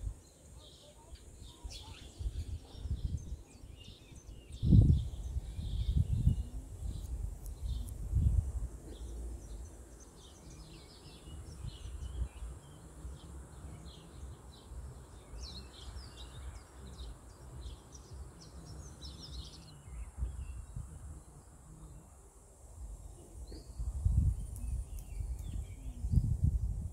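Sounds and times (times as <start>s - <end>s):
small birds chirping: 0.0s - 26.9s
wind rumble on microphone: 1.1s - 26.9s.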